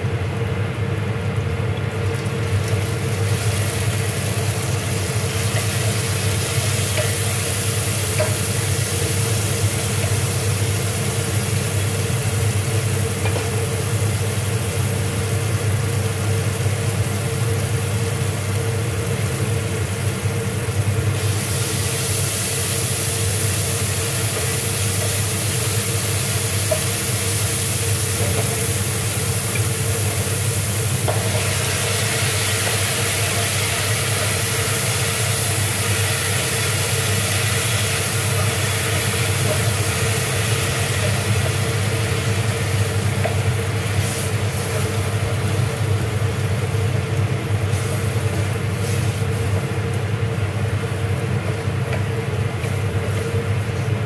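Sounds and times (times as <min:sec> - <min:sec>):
low mechanical hum: 0:00.0 - 0:54.0
food sizzling in oil: 0:01.9 - 0:54.0.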